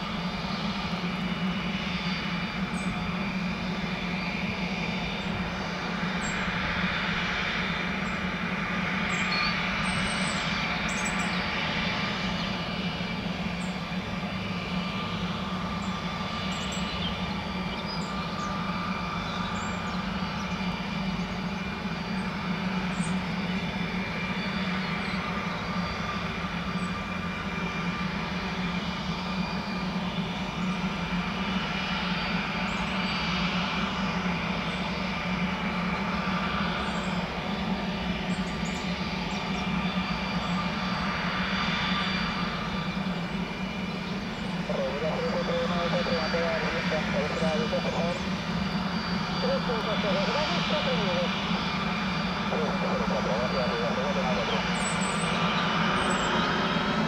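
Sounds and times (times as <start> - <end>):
jet engine with turbine whine: 0.0 - 57.0.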